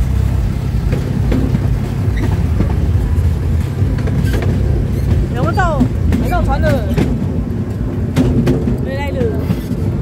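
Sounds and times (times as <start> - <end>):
miniature train rumbling on track: 0.0 - 10.0
track clicks and knocks: 0.0 - 10.0.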